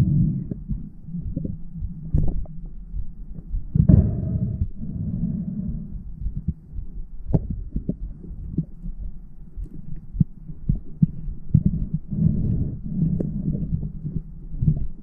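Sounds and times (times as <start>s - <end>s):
underwater rumble of moving water: 0.0s - 15.0s.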